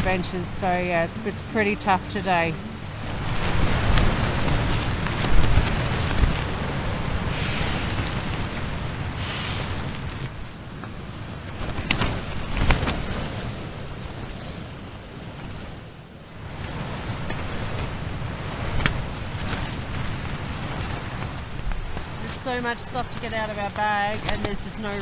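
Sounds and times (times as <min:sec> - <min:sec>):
strong wind gusting: 0:00.0 - 0:25.0
tent fabric flapping: 0:00.0 - 0:25.0.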